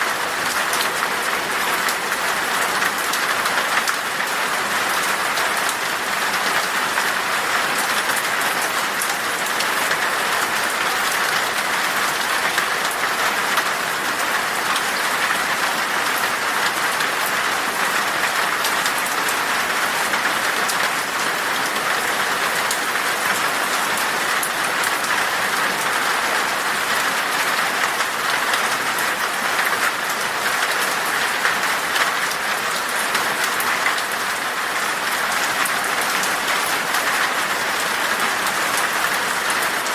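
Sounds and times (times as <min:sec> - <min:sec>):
rain pattering in forest: 0:00.0 - 0:39.9.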